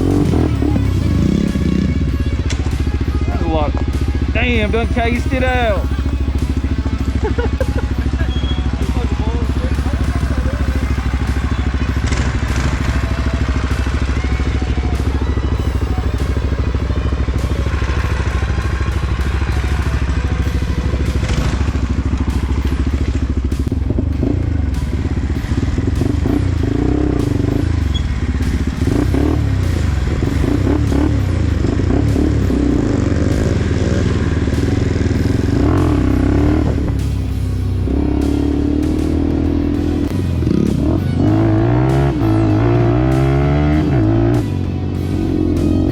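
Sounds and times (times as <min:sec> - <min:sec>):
small motorbike engine running: 0:00.0 - 0:45.9.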